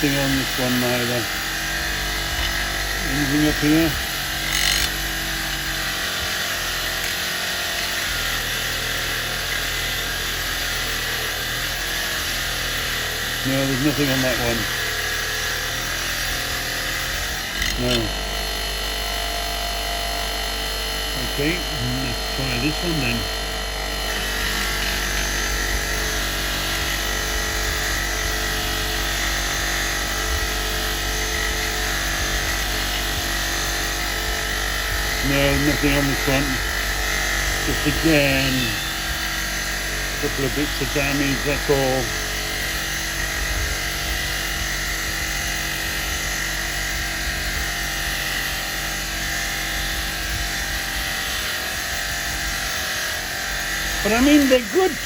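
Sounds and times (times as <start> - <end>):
wire brush wheel scouring metal: 0.0 - 55.0.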